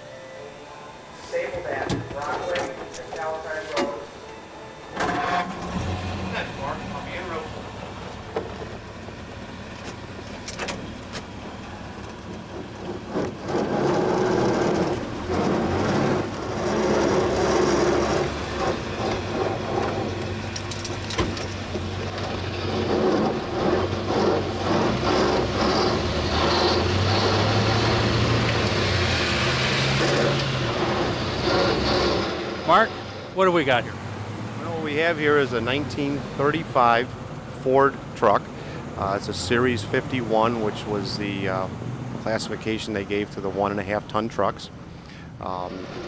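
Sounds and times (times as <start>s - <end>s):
truck engine running: 1.4s - 46.0s.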